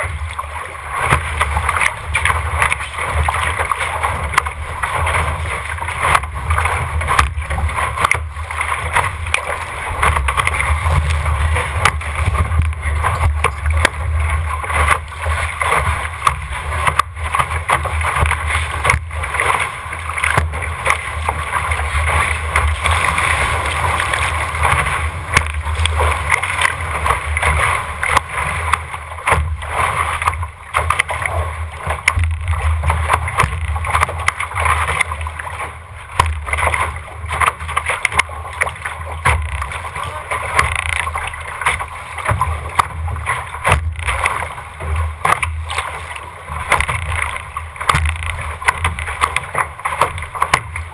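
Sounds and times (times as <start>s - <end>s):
spray slapping against hull: 0.0s - 50.9s
water rushing past hull: 0.0s - 50.9s
wind rumble on microphone: 0.0s - 50.9s.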